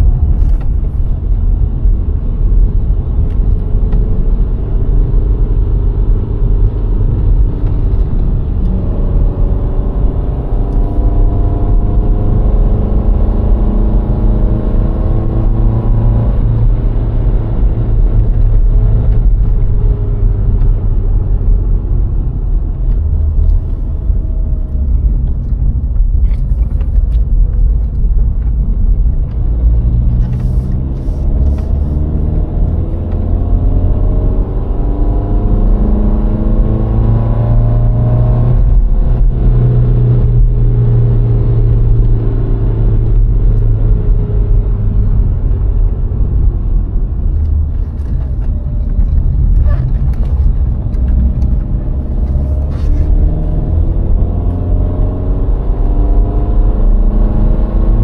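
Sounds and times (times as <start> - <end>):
car engine while driving: 0.0 - 58.0
tyre and road rumble: 0.0 - 58.0.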